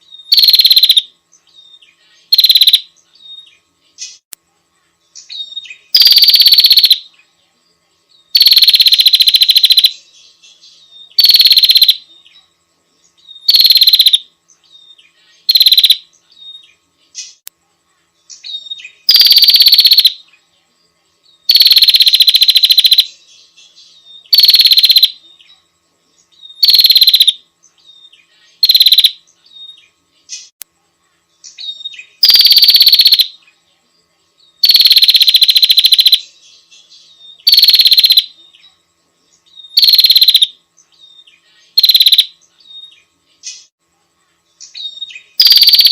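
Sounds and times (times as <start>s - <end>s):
prinia buzzy trill: 0.0s - 45.9s.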